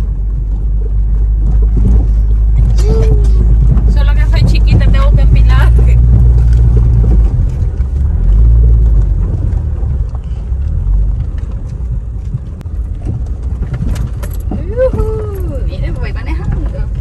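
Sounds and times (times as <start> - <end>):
car engine rumble: 0.0 - 17.0
tyres on dirt road: 0.0 - 17.0.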